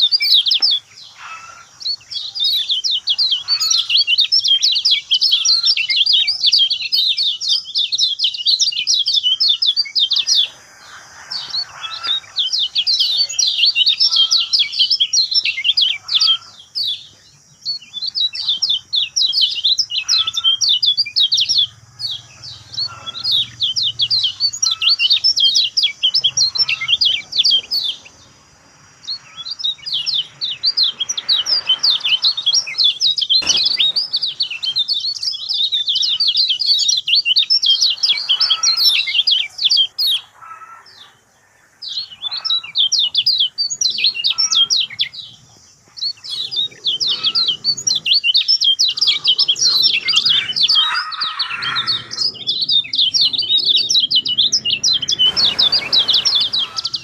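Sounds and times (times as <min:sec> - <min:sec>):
bird twittering song: 0:00.0 - 0:57.0.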